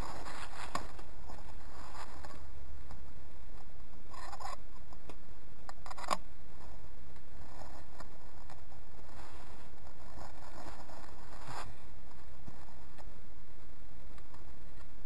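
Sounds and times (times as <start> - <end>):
faint rustles: 0.0 - 15.0
steady low rumble: 0.0 - 15.0.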